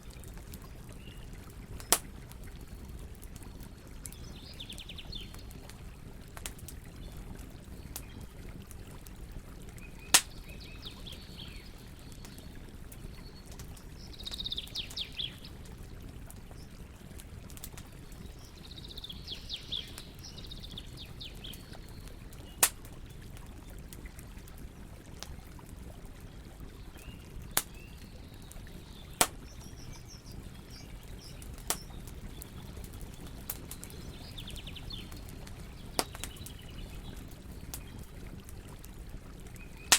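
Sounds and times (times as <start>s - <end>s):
campfire popping: 0.0s - 39.9s
flowing water: 0.0s - 39.9s
songbirds chirping: 0.0s - 39.9s.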